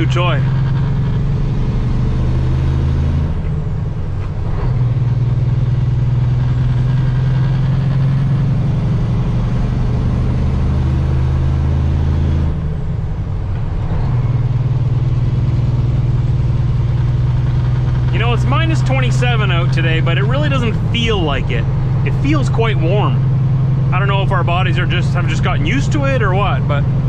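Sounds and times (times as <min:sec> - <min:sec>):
truck engine and road noise: 0:00.0 - 0:27.0.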